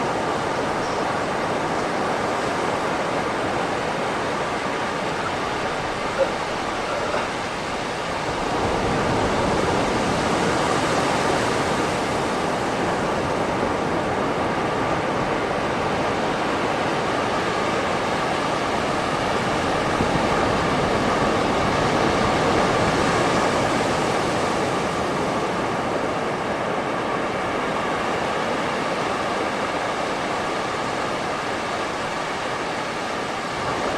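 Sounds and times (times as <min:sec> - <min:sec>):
waves washing onto beach: 0:00.0 - 0:33.9.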